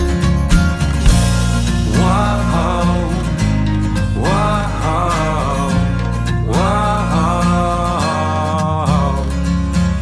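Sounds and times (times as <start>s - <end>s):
country song with guitar: 0.0s - 10.0s.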